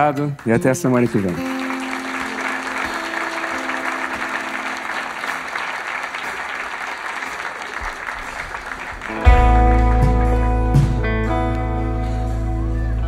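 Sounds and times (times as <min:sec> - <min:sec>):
audience applauding: 0:00.2 - 0:11.1.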